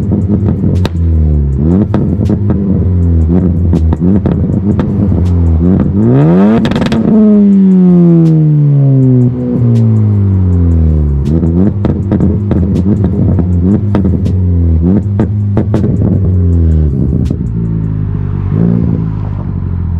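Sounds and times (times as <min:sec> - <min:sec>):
exhaust pops and crackles: 0:00.0 - 0:18.0
car engine revving: 0:00.0 - 0:19.9.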